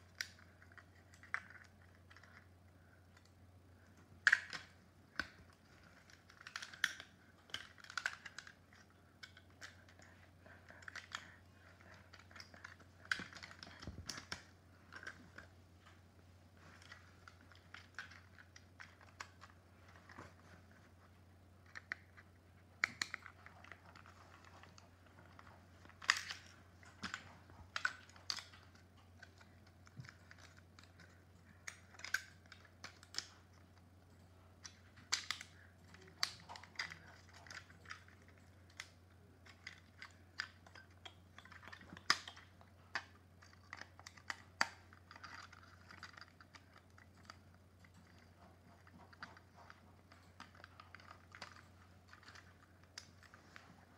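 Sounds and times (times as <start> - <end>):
plastic parts clicking: 0.0 - 16.0, 16.7 - 20.4, 21.6 - 33.9, 34.6 - 53.9
faint low hum: 0.0 - 53.9.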